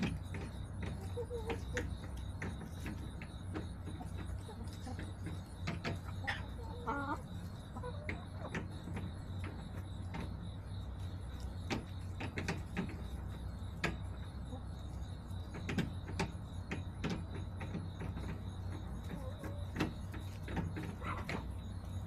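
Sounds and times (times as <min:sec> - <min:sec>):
chickens pecking taps: 0:00.0 - 0:22.0.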